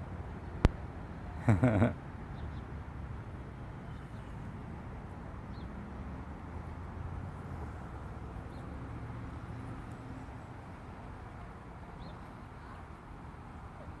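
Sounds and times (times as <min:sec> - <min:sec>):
traffic and engines hum: 0:00.0 - 0:14.0.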